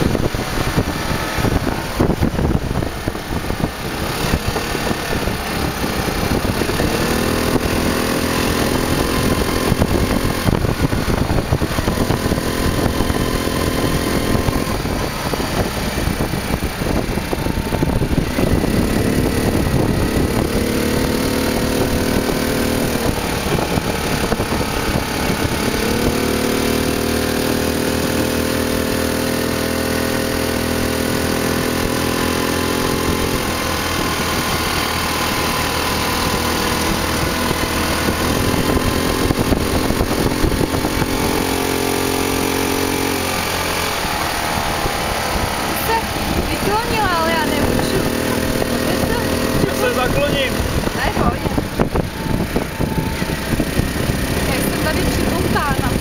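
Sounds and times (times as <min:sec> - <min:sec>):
buggy engine running: 0:00.0 - 0:56.0.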